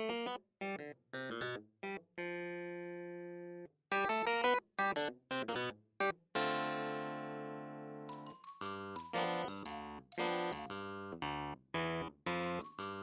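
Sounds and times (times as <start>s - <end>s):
plucked chords music: 0.0s - 13.0s.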